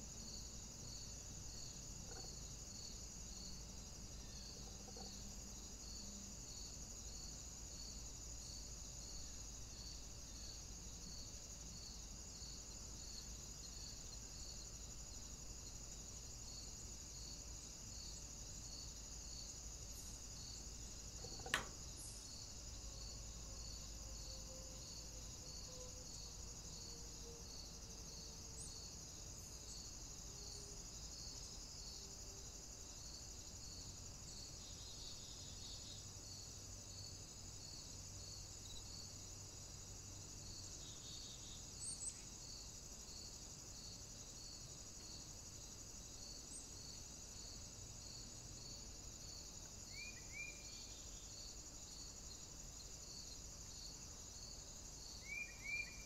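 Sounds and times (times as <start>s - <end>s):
faint insect chorus: 0.0s - 56.0s.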